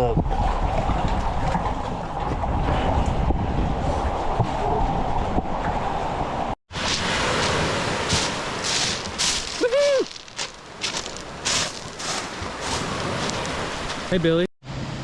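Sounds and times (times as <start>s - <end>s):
wind buffeting microphone: 0.0s - 14.1s
water noise: 0.0s - 15.0s.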